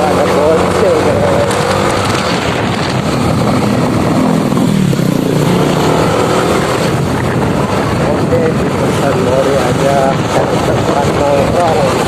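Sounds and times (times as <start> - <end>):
motor scooter engine running: 0.0 - 12.0
wind noise: 0.0 - 12.0.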